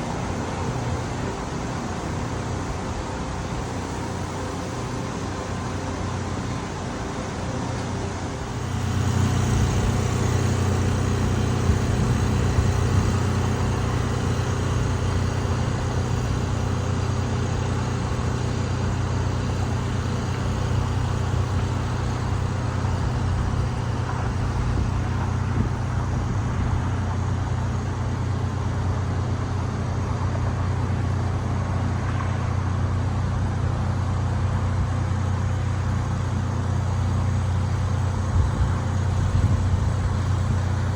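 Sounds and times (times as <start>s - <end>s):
low hum: 8.0s - 40.9s.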